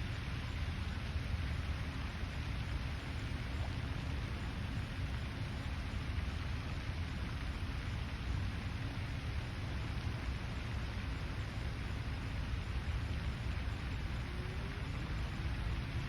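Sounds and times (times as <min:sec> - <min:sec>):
lakeside ambience hiss: 0:00.0 - 0:16.0.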